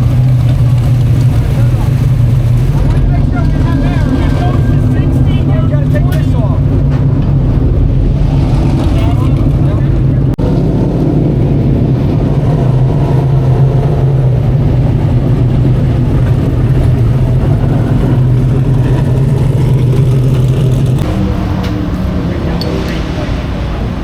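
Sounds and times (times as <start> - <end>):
race car engine running: 0.0 - 24.0.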